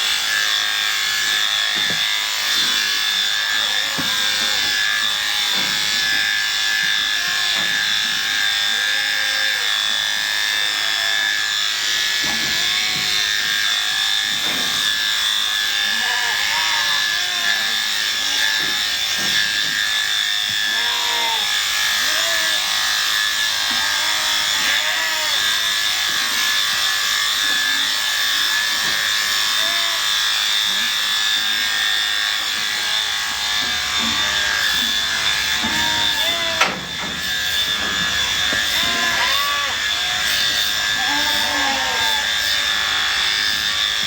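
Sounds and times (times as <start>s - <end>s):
electric shears buzzing: 0.0s - 44.0s.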